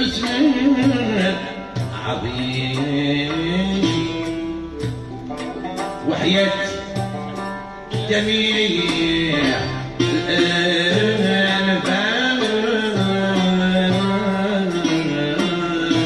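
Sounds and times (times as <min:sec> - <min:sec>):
bowed string: 0:00.0 - 0:16.0
hand-played frame drum: 0:00.0 - 0:16.0
plucked banjo and lute: 0:00.0 - 0:16.0.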